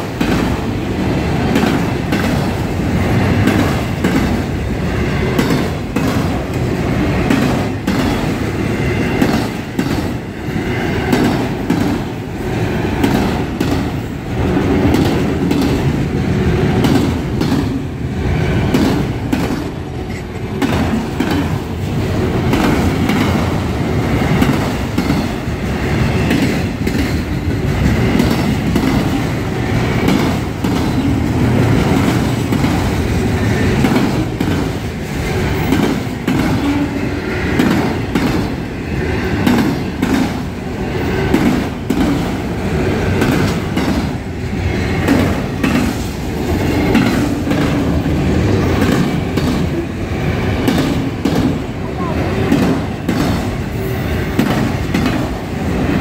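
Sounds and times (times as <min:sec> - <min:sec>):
wheels clacking over rail joints: 0:00.0 - 0:51.8, 0:52.4 - 0:55.6
train wheels rumbling on rail: 0:00.0 - 0:56.0.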